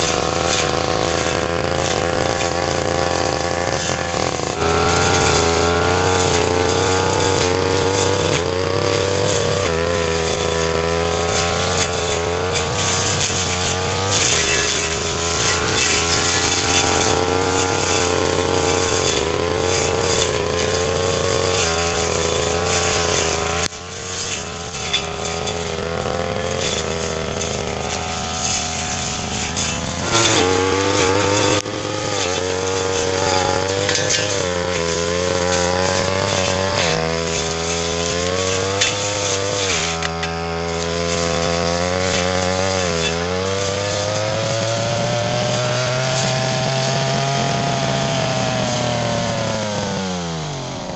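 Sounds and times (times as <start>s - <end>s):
brush cutter engine cutting grass: 0.0s - 50.9s.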